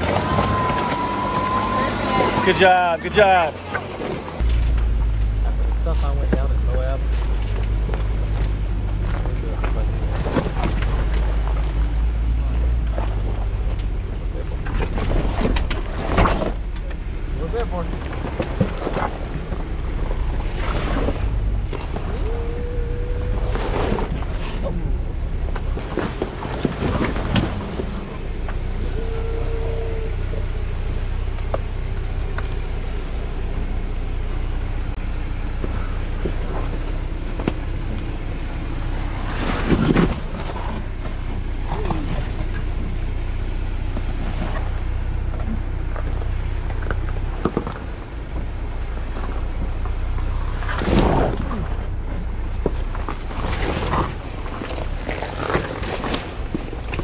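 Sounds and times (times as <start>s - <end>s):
off-road vehicle engine low revs: 0.0s - 57.0s.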